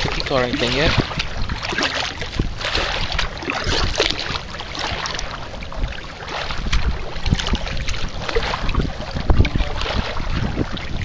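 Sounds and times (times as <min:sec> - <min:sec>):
water splashing around a kayak: 0:00.0 - 0:11.0
wind buffeting microphone: 0:00.0 - 0:11.0.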